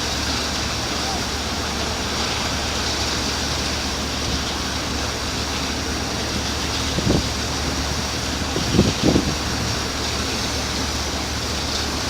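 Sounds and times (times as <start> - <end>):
rushing wind and water: 0.0 - 12.0
ship engines humming: 0.0 - 12.0.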